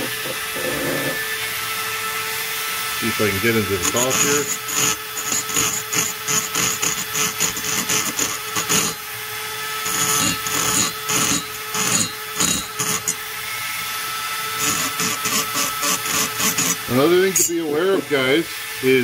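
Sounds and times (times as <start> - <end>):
grinder bit scraping metal: 0.0 - 19.0
rotary grinder whine: 0.0 - 19.0.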